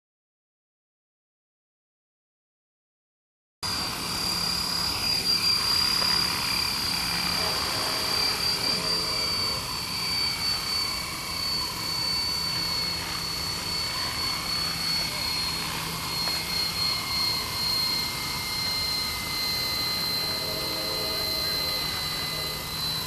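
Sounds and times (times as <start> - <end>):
model helicopter high whine: 3.6 - 23.0.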